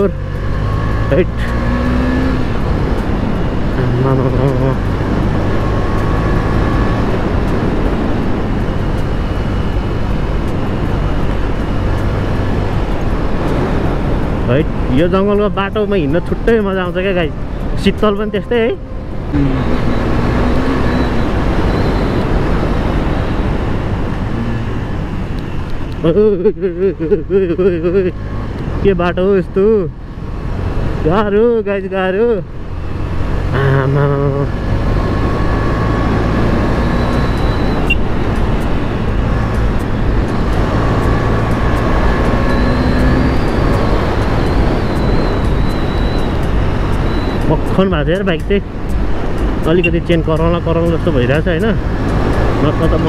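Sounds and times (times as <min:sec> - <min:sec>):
loud steady rushing noise: 0:00.0 - 0:33.5, 0:34.4 - 0:53.0
road noise: 0:00.0 - 0:53.0.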